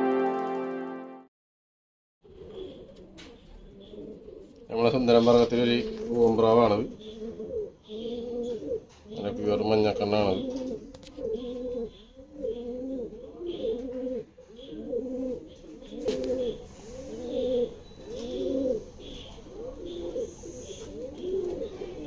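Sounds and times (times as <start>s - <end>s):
pigeons cooing: 2.2s - 22.0s.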